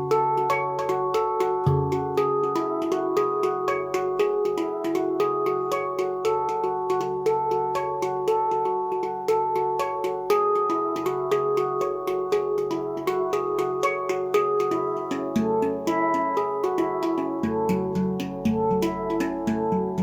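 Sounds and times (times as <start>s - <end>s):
steel hand drum melody: 0.0s - 20.0s.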